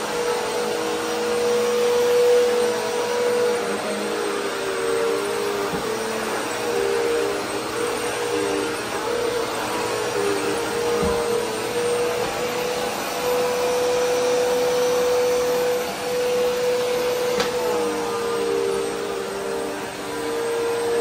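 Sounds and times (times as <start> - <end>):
vacuum cleaner motor whine: 0.0 - 21.0.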